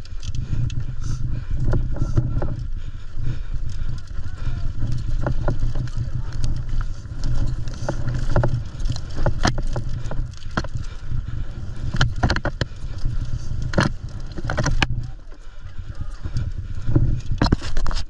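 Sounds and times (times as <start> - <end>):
bike rattling over rocks: 0.0 - 18.0
low rumble of riding: 0.0 - 18.0.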